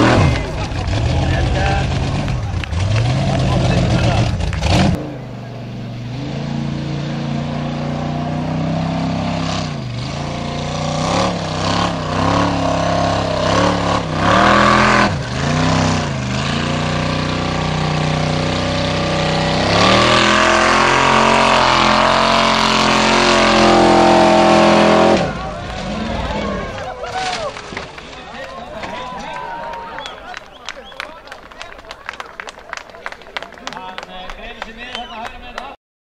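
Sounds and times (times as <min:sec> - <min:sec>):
offroad car engine revving: 0:00.0 - 0:31.0.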